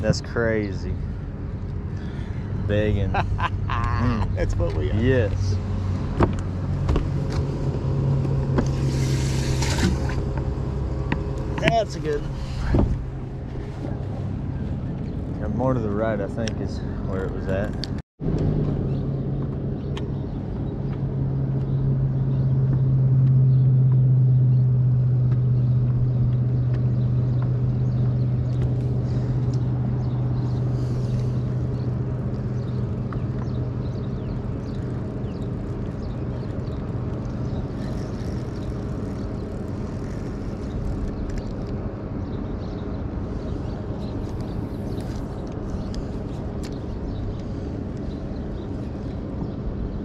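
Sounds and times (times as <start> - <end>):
low motor hum: 0.0 - 50.0.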